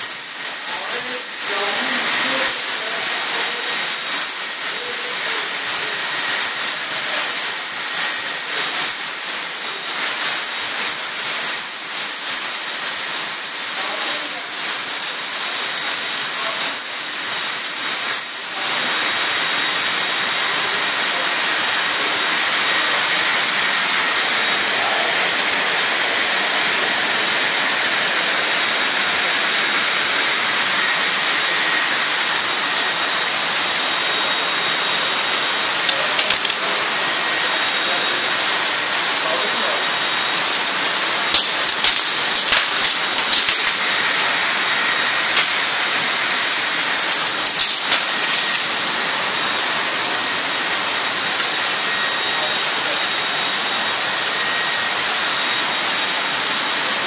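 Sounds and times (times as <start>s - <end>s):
air hissing from blowers: 0.0s - 57.0s
laser cutting machine running: 0.0s - 57.0s.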